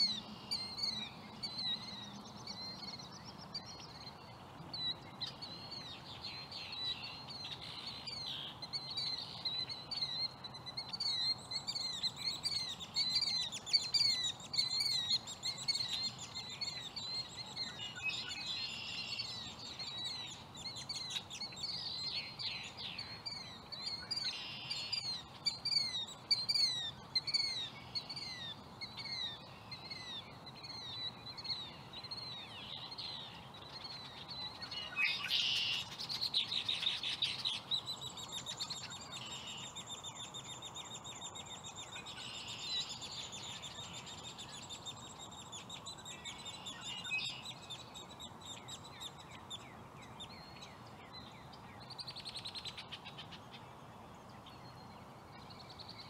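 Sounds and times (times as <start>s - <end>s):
blackbirds chirping: 0.0s - 56.0s.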